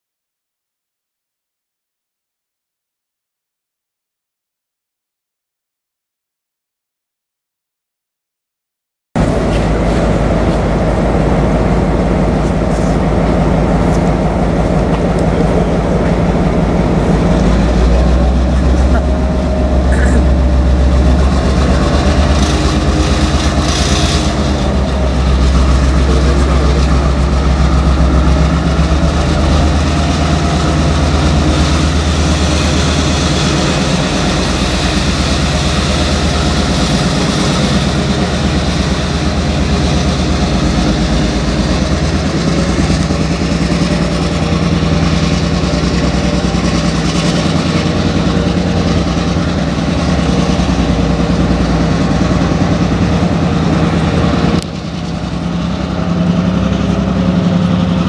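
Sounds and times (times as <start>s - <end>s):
diesel locomotive engine running: 9.2s - 58.0s.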